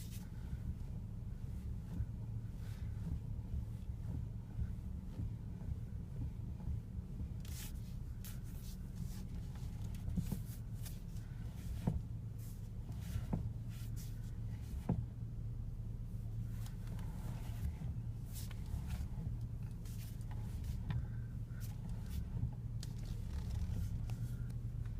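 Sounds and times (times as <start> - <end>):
steady low hum: 0.0 - 24.9
steering clunking knocks: 0.0 - 24.9.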